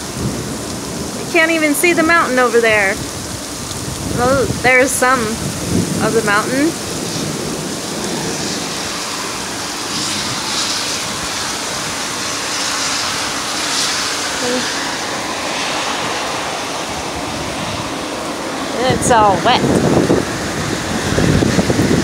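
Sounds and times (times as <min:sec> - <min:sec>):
heavy rain downpour: 0:00.0 - 0:22.0.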